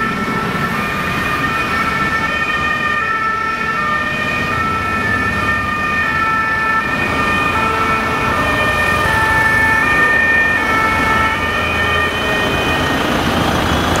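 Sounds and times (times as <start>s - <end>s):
traffic noise: 0.0s - 14.0s
two-tone emergency sirens: 0.0s - 14.0s.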